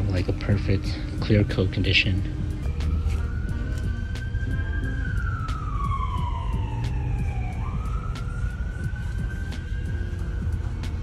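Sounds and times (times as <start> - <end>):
emergency vehicle siren wailing: 0.1 - 11.0.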